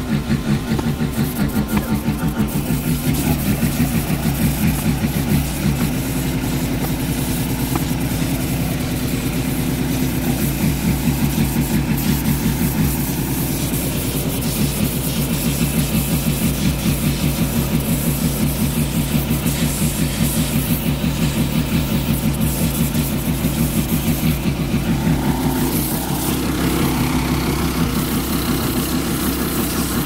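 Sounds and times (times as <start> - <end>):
pressure washer motor droning: 0.0 - 30.0
water jet hissing on metal: 0.0 - 30.0.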